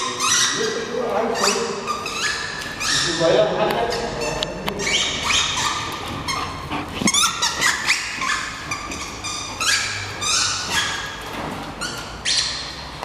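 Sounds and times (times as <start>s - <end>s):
dog whining and squealing: 0.0s - 3.3s, 3.9s - 12.7s.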